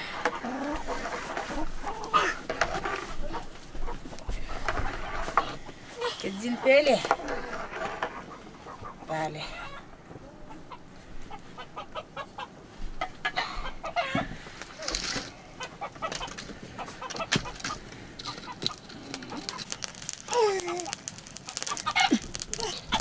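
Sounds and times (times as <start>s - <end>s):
chickens clucking: 0.0s - 20.1s, 20.8s - 23.0s.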